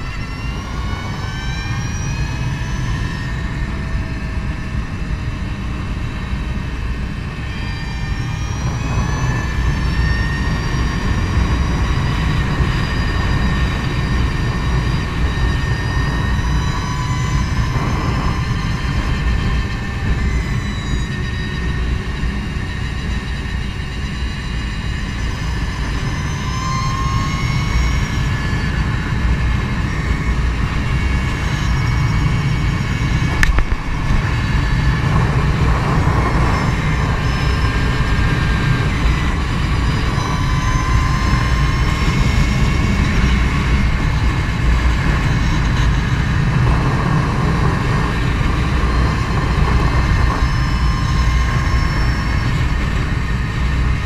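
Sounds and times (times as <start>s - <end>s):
electric motor whine: 0.0s - 54.0s
wind rushing over microphone: 0.0s - 54.0s.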